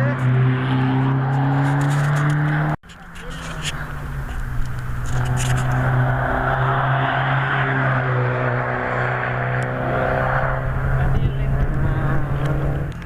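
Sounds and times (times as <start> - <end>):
race car engine running: 1.0 - 13.0.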